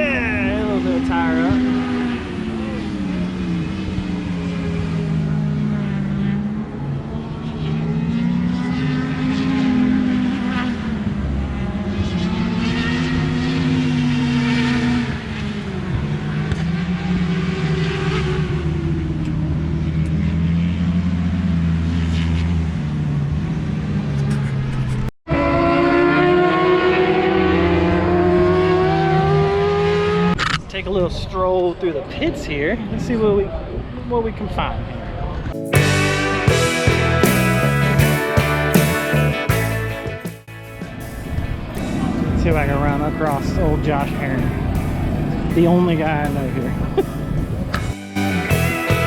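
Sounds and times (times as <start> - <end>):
racing motorcycles passing: 0.0 - 30.7, 34.8 - 49.0.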